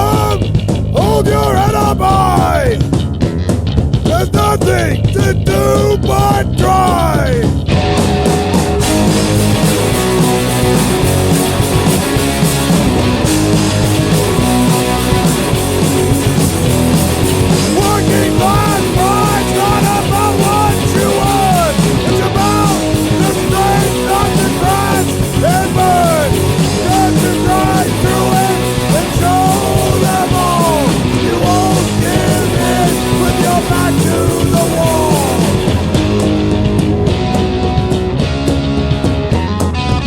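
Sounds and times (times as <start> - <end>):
bass guitar: 0.0 - 40.0
distorted guitars: 0.0 - 40.0
drums: 0.0 - 40.0
lead guitar bent notes: 0.0 - 40.0.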